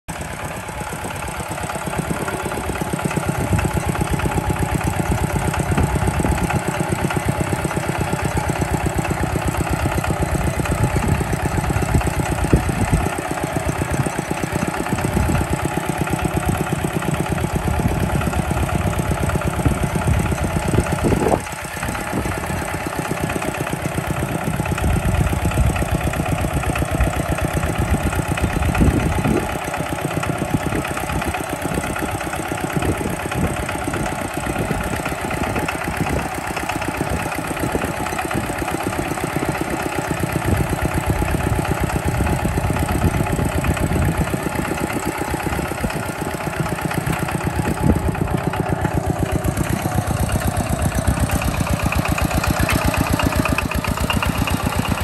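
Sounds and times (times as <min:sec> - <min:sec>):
diesel engine chugging under load: 0:00.1 - 0:55.0.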